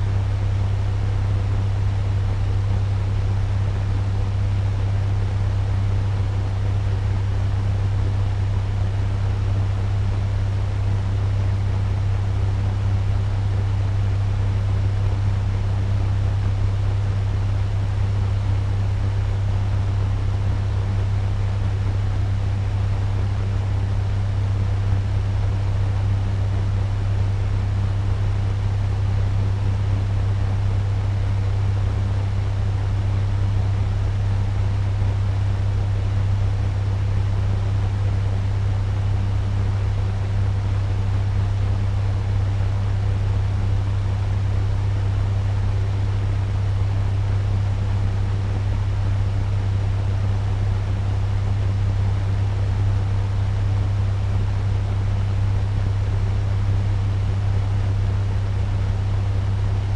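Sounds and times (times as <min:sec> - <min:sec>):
fan air rushing: 0:00.0 - 0:59.9
fan motor hum: 0:00.0 - 0:59.9.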